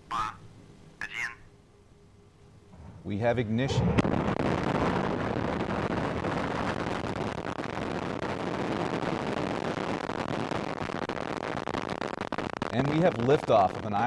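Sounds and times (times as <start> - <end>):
rocket engine roar: 2.6 - 14.0.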